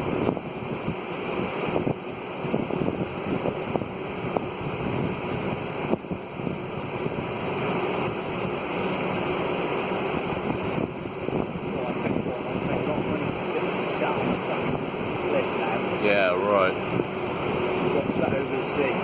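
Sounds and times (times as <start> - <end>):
storm wind rushing: 0.0 - 19.0.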